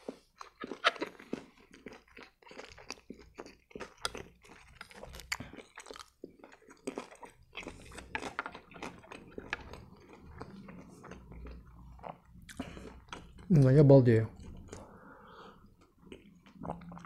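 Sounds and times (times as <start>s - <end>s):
chewing with wet smacking: 0.0s - 17.0s.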